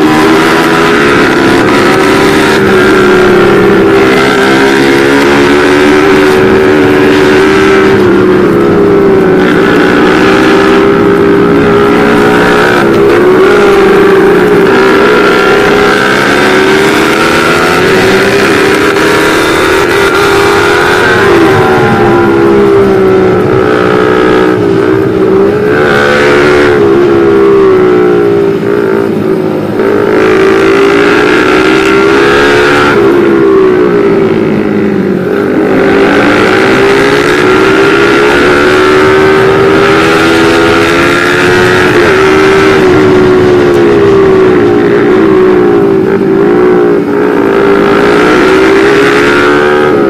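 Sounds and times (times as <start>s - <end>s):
motorcycle engine revving: 0.0s - 50.0s
steady rush of noise: 0.0s - 50.0s.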